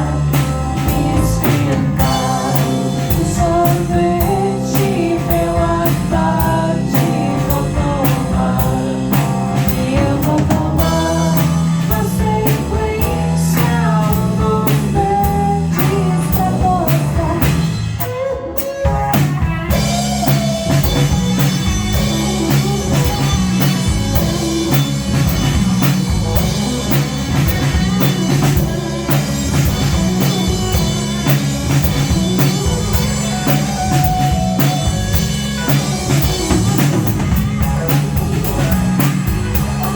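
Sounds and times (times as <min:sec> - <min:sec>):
drums keeping a beat: 0:00.0 - 0:39.9
rock band playing: 0:00.0 - 0:39.9.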